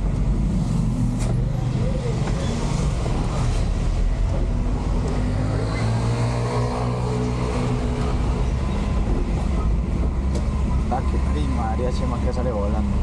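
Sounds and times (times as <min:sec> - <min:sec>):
low road rumble: 0:00.0 - 0:13.0.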